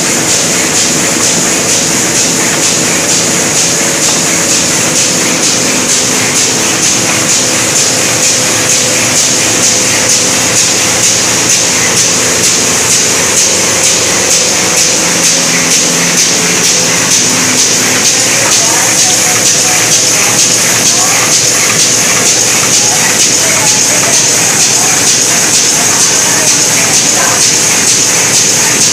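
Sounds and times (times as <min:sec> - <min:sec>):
constant machine hum: 0:00.0 - 0:28.9
machine clattering: 0:00.0 - 0:28.9.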